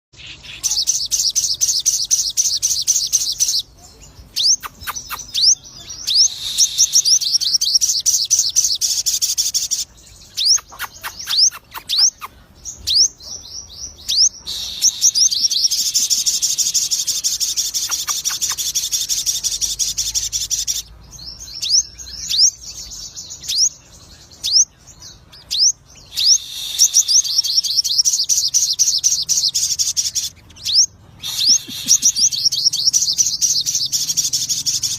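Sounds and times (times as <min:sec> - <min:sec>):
songbird singing rapid chirps: 0:00.2 - 0:34.9.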